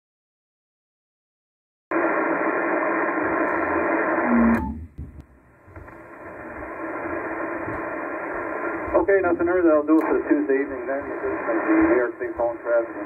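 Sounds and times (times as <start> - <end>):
radio band noise hiss: 2.0 - 13.0.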